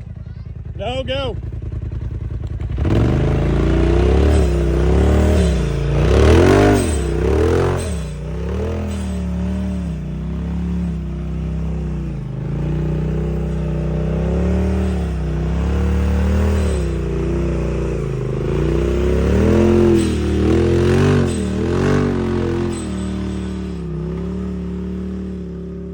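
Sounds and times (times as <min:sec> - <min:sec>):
utv engine revving under load: 0:00.8 - 0:25.9.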